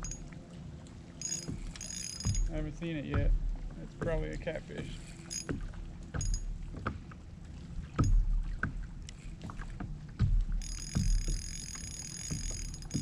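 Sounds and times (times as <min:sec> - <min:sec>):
water slapping against kayak hull: 0:00.0 - 0:13.0.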